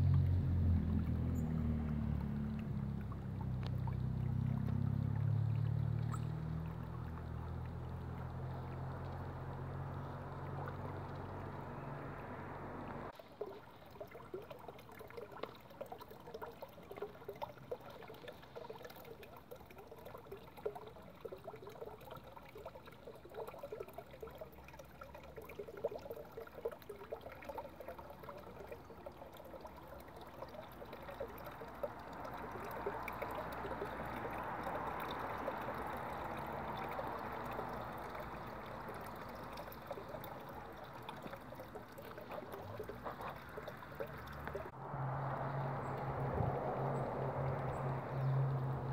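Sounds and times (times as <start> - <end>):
water trickling: 0.0 - 48.9.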